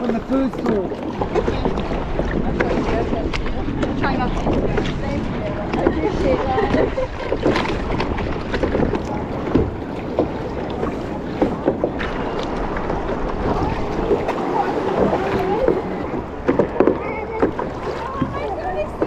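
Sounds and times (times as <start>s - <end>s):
paddle dipping into water: 0.0s - 19.0s
water splashing against kayak: 0.0s - 19.0s
wind buffeting microphone: 0.0s - 19.0s.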